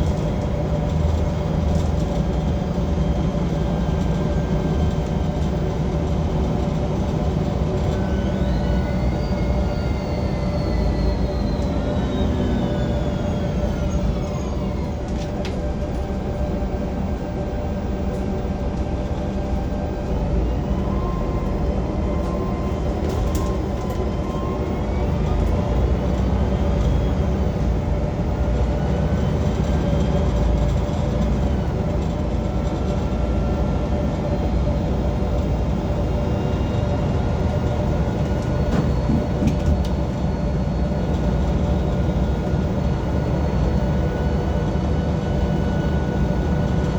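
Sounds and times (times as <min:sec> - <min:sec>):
bus drivetrain rumbling: 0:00.0 - 0:46.9.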